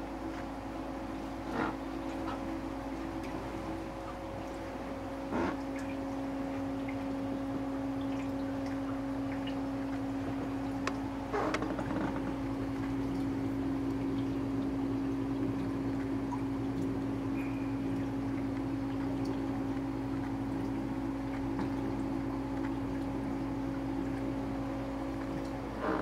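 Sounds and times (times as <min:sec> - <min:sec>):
aquarium pump humming: 0:00.0 - 0:26.0
circulating water: 0:00.0 - 0:26.0.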